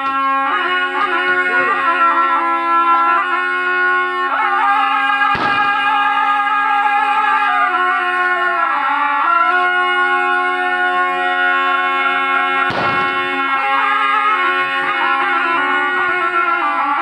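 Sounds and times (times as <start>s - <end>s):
shawms playing a folk tune: 0.0s - 17.0s.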